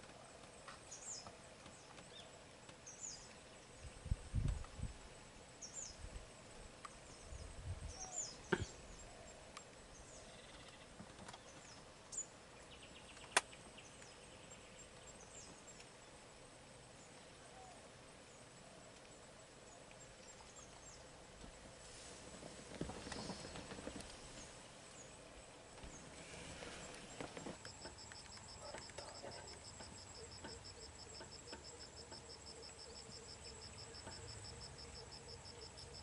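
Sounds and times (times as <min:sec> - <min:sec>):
small birds chirping: 0:00.0 - 0:04.9, 0:05.5 - 0:21.6, 0:22.7 - 0:36.0.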